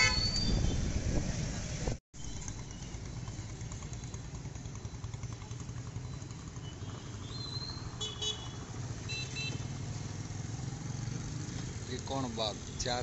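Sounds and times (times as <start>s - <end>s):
traffic engines rumbling: 0.0s - 13.0s.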